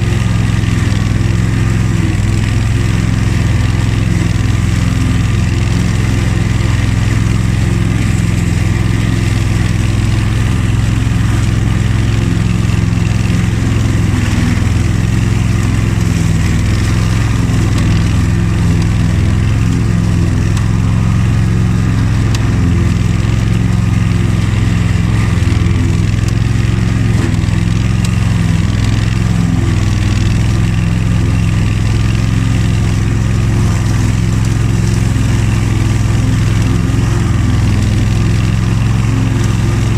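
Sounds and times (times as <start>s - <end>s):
lawn tractor engine humming: 0.0s - 39.9s.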